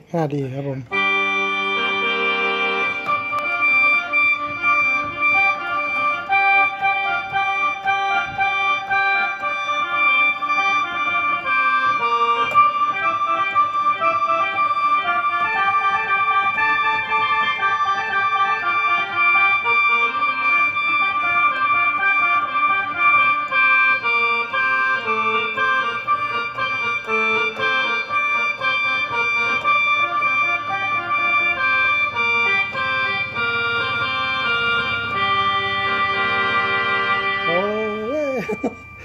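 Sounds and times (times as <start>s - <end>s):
synthesizer mouth organ drone and melody: 0.9s - 39.0s.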